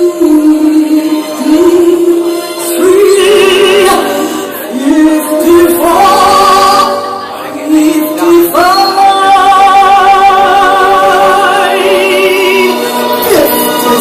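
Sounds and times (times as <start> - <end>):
musical accompaniment: 0.0 - 14.0
woman singing with vibrato: 0.0 - 14.0.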